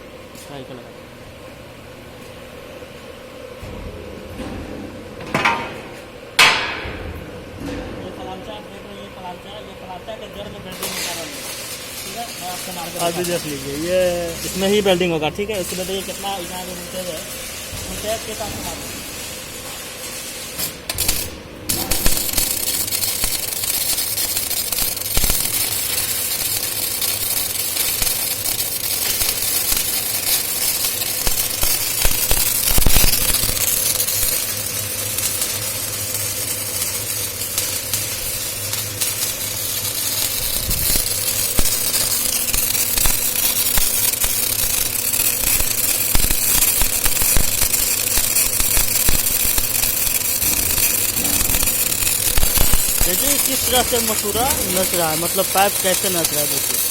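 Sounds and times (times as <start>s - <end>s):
low electrical hum: 0.0s - 56.9s
welding arc crackling and hissing: 0.0s - 56.9s.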